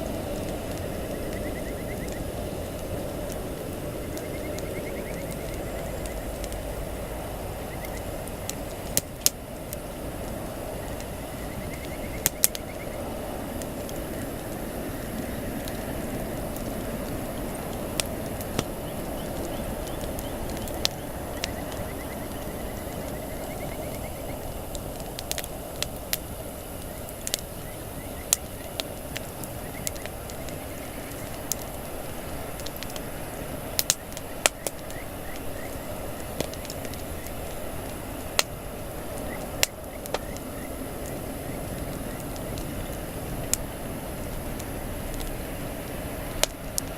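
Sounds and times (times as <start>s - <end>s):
campfire burning: 0.0s - 46.9s
fire crackles and pops: 0.0s - 46.9s.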